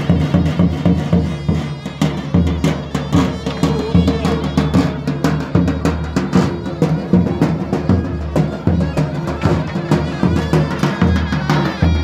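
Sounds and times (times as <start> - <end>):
folk dance music: 0.0 - 12.0
large drum beating: 0.0 - 12.0.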